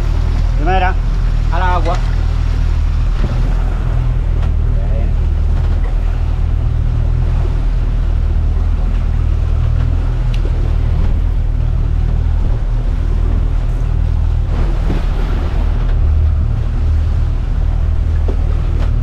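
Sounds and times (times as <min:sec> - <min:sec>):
boat engine droning: 0:00.0 - 0:19.0
water rushing along hull: 0:00.0 - 0:19.0
wind buffeting microphone: 0:00.0 - 0:19.0.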